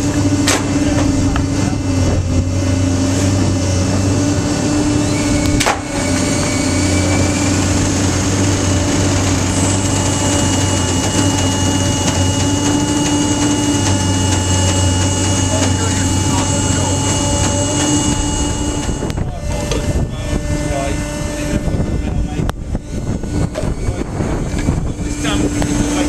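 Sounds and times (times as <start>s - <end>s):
baler machine hum: 0.0s - 26.0s.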